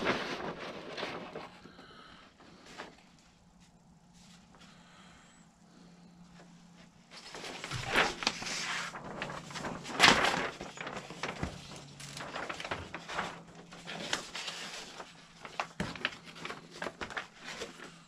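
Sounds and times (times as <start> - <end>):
paper sheets rustling and crackling: 0.0 - 4.9, 6.3 - 18.0.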